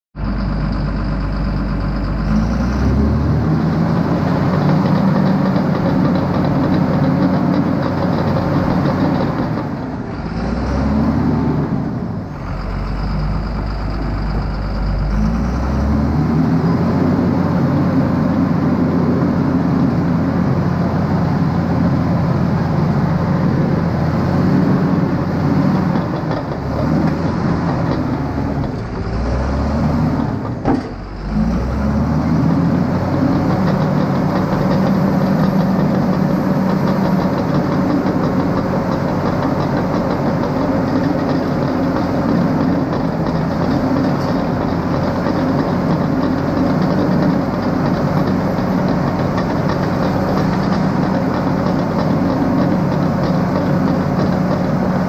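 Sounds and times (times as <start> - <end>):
diesel engine running under load: 0.2 - 55.0.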